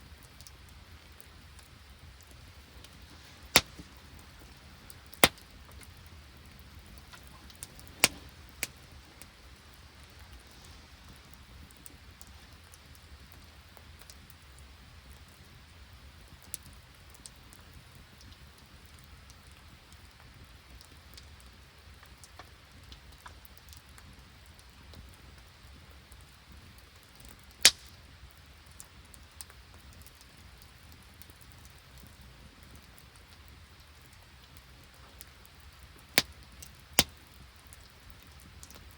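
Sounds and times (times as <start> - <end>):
rain and sleet pattering: 0.0 - 38.9.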